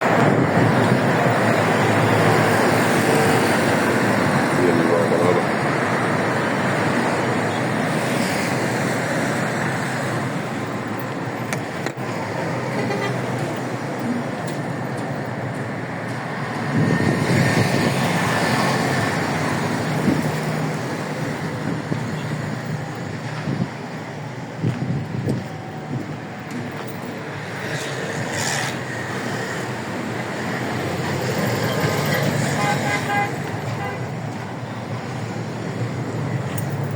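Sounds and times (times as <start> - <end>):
roadway noise: 0.0 - 36.9.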